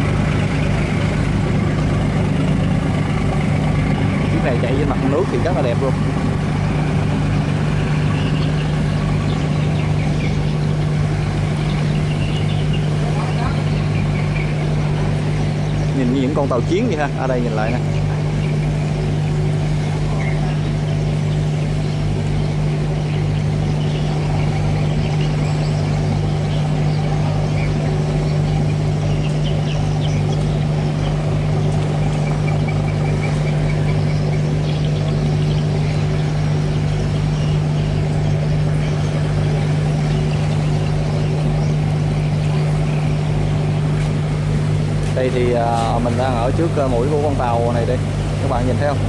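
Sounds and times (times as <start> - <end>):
ship diesel engines humming: 0.0 - 49.0.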